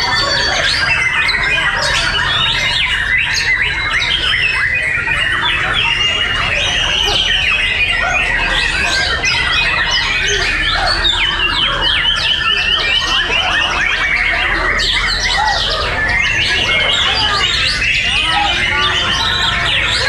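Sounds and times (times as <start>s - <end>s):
songbirds singing whistled phrases: 0.0s - 20.0s.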